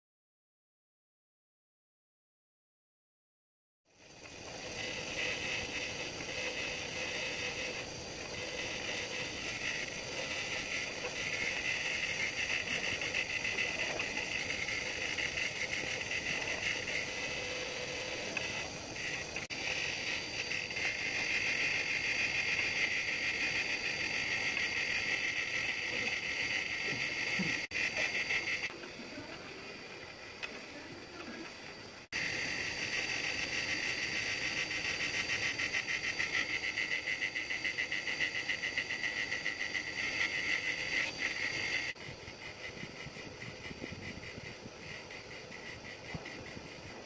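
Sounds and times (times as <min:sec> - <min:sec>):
grinder wheel hissing on metal: 0:03.9 - 0:47.0
motor humming: 0:04.0 - 0:47.0.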